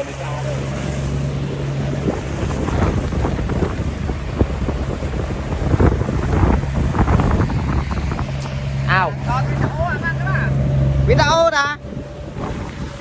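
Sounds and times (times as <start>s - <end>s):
boat motor humming: 0.0s - 13.0s
water splashing and slapping: 0.0s - 13.0s
wind buffeting microphone: 0.0s - 13.0s.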